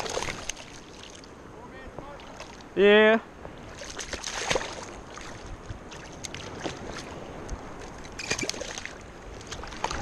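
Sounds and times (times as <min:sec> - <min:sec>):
shallow water sloshing and splashing: 0:00.0 - 0:01.4, 0:02.0 - 0:02.8, 0:03.4 - 0:10.0.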